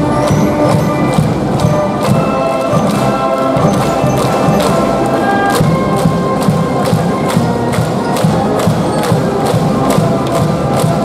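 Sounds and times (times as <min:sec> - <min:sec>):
brass band playing: 0:00.0 - 0:11.0
steady drumbeat: 0:00.0 - 0:11.0.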